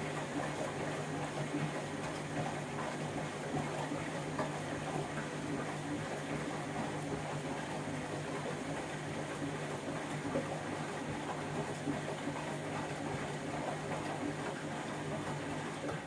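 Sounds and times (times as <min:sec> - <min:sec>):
washing machine motor hum: 0:00.0 - 0:16.0
water sloshing in washing machine: 0:00.0 - 0:16.0.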